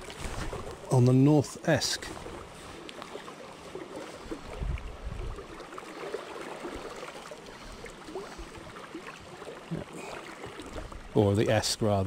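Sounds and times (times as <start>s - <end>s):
river water flowing and lapping: 0.0s - 12.0s.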